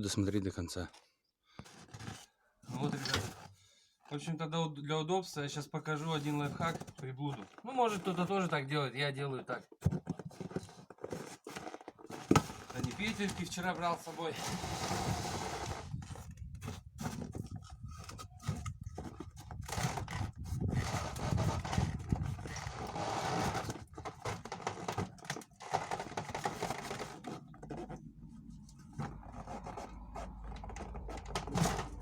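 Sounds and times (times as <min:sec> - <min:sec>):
objects scraping and rustling: 0:00.9 - 0:04.2, 0:05.8 - 0:08.7, 0:09.5 - 0:32.0.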